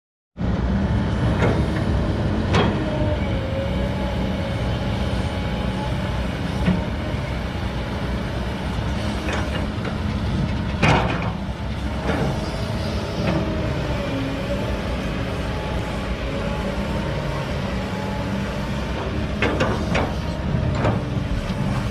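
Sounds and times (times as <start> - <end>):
excavator diesel engine running: 0.4 - 21.9.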